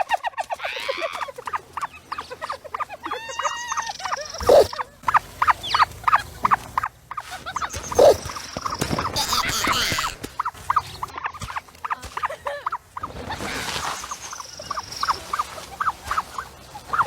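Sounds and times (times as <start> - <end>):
small animal squeaking: 0.4 - 17.0.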